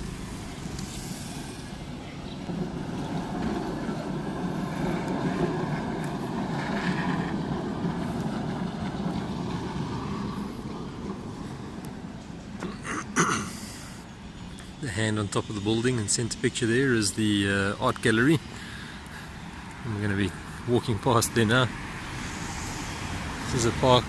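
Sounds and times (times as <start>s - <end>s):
tram running on rails: 0.0s - 12.8s, 13.4s - 24.0s.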